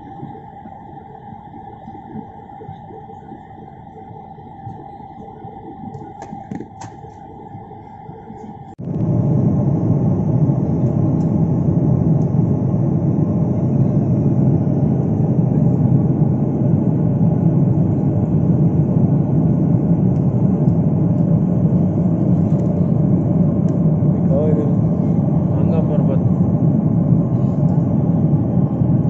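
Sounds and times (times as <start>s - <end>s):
jet airliner cabin noise: 0.0s - 29.0s.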